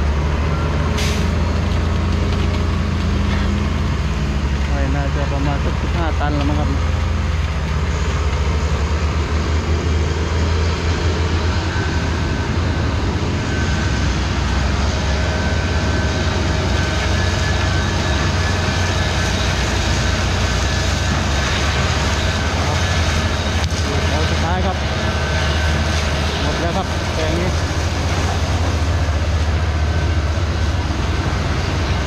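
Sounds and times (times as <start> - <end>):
tractor diesel engine drone: 0.0 - 32.0.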